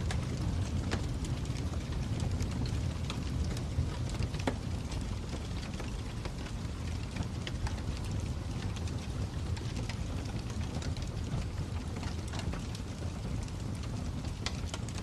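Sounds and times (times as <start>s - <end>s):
fire crackling: 0.0s - 15.0s
pops and snaps of fire: 0.0s - 15.0s.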